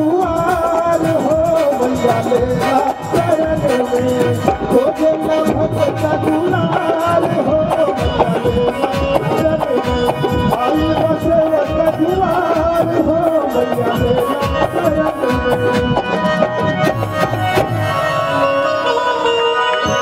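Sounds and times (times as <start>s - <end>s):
dholak drum beats: 0.0s - 20.0s
keyboard melody: 0.0s - 20.0s.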